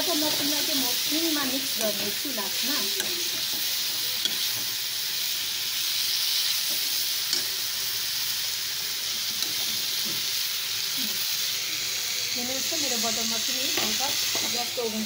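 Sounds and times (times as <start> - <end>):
mushrooms sizzling in a wok: 0.0 - 15.0.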